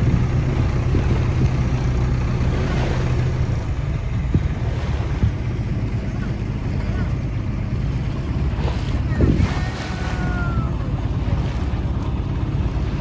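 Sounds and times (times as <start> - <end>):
wind on microphone: 0.0 - 6.4, 8.0 - 13.0
boat motor drone: 0.0 - 13.0.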